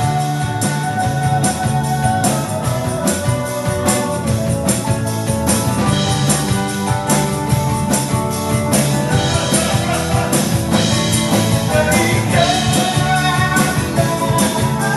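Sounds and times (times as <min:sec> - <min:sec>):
drum kit beat: 0:00.0 - 0:14.9
live rock band playing: 0:00.0 - 0:14.9.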